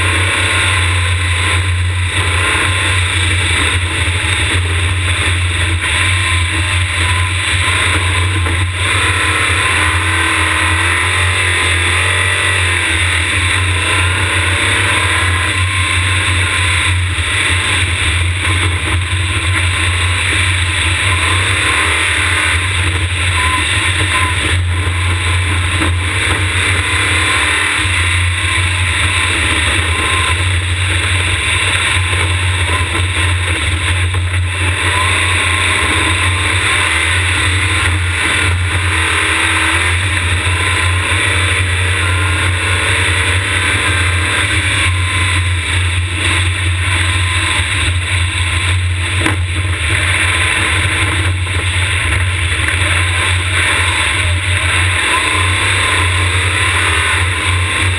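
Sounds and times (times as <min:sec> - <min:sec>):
race car engine under load: 0:00.0 - 0:57.9
wind and road noise: 0:00.0 - 0:57.9.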